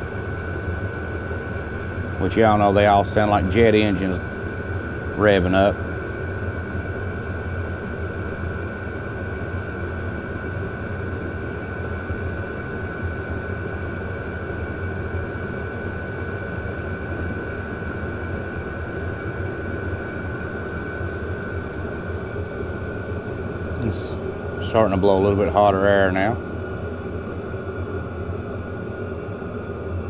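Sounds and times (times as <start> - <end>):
diesel heater burner and fan rush: 0.0 - 30.0
thin steady whine: 0.0 - 30.0.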